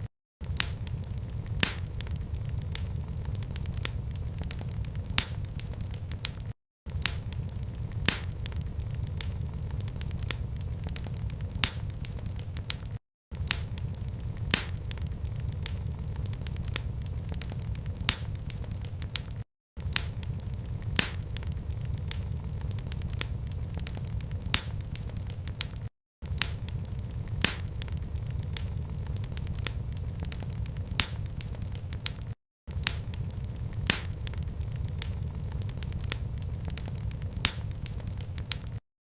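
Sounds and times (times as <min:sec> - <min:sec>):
wood fire crackling: 0:00.4 - 0:38.8.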